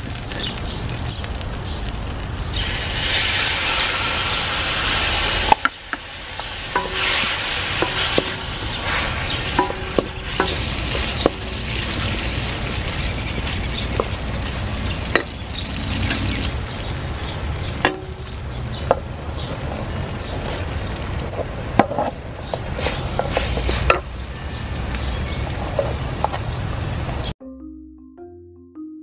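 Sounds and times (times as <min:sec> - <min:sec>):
food sizzling in oil: 0:00.0 - 0:21.3, 0:22.1 - 0:26.7.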